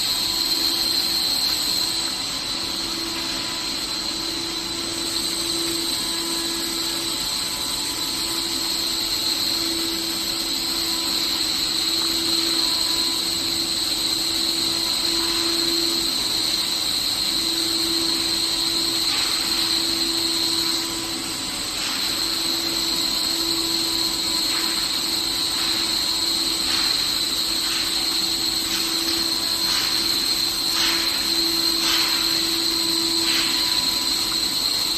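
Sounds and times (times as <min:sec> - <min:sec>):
router spindle whine: 0:00.0 - 0:34.9.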